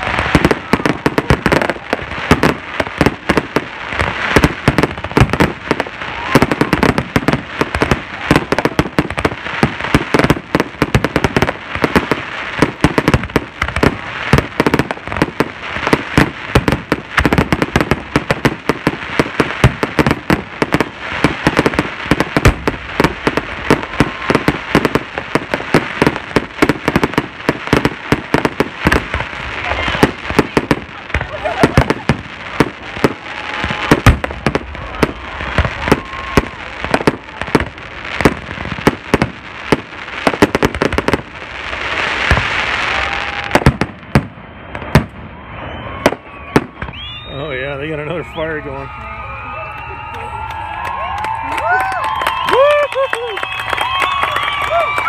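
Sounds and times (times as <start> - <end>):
aerial fireworks bursting: 0.0 - 55.0.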